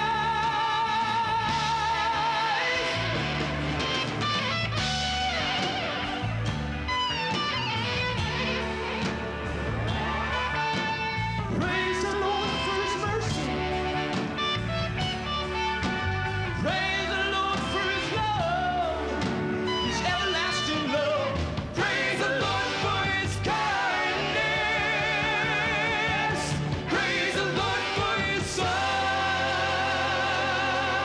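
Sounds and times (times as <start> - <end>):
bass guitar: 0.0 - 31.0
drums: 0.0 - 31.0
electric guitars: 0.0 - 31.0.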